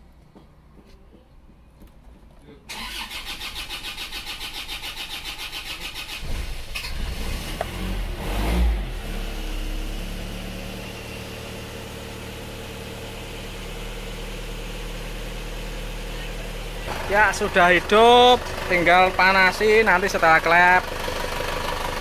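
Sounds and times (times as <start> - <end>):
diesel engine cranking and idling: 2.7 - 22.0.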